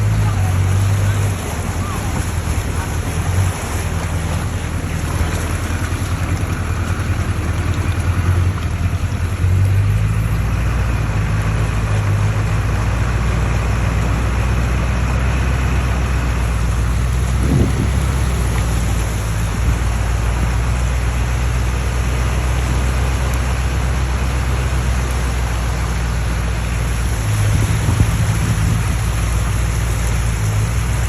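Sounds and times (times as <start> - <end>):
heavy rain: 0.0 - 31.0
vehicle engine running: 0.0 - 31.0
water splashing: 0.0 - 31.0.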